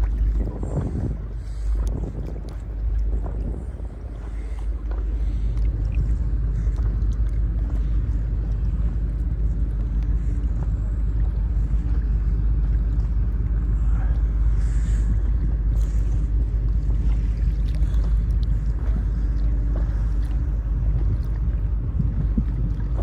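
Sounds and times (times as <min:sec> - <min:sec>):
motorboat engine rumbling: 0:00.0 - 0:23.0.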